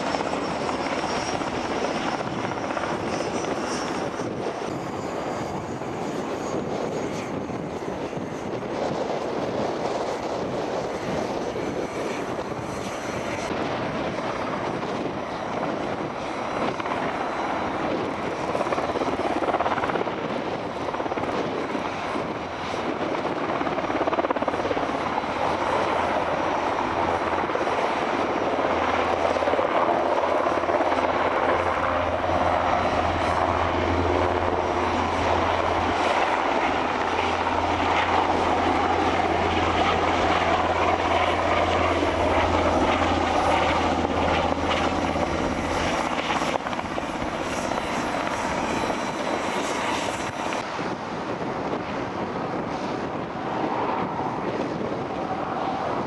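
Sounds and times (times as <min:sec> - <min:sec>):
helicopter engines and rotors: 0:00.0 - 0:56.0.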